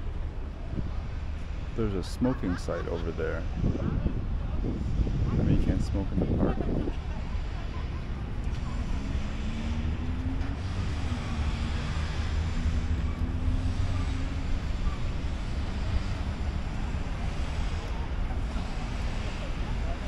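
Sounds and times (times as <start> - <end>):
traffic rumble: 0.0 - 20.0
vehicle engine hum: 0.0 - 20.0.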